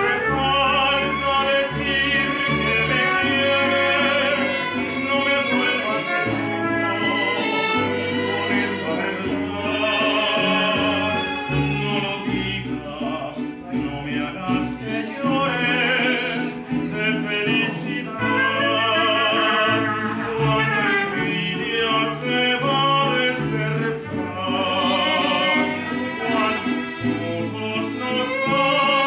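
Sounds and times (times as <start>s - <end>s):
guitars strumming: 0.0s - 29.0s
man singing with vibrato: 0.0s - 29.0s.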